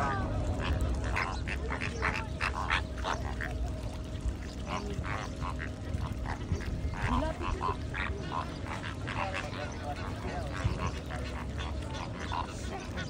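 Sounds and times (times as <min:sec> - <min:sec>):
flamingos honking: 0:00.0 - 0:13.0
low steady rumble: 0:00.0 - 0:13.0.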